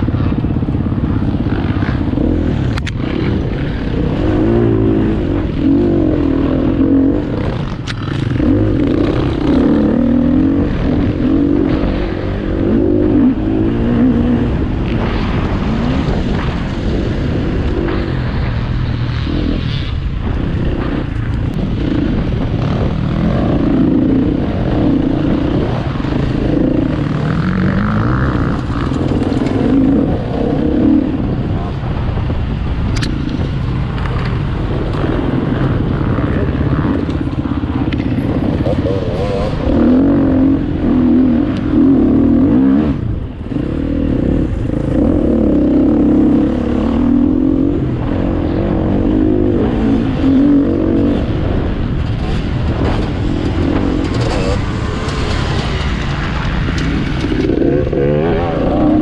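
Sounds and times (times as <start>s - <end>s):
motorcycle engine revving: 0.0s - 59.0s
steady low rumble: 0.0s - 59.0s.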